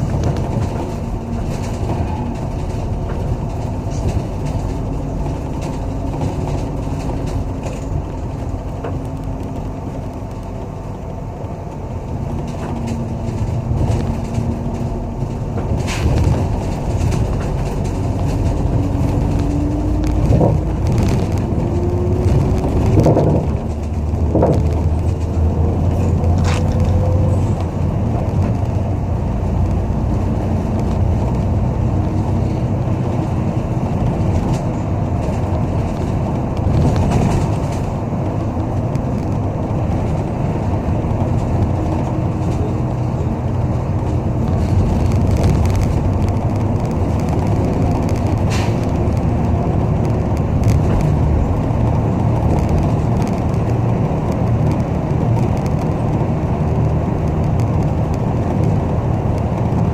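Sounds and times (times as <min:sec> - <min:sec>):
bus engine and road rumble: 0:00.0 - 0:59.9
drivetrain whine: 0:00.0 - 0:59.9.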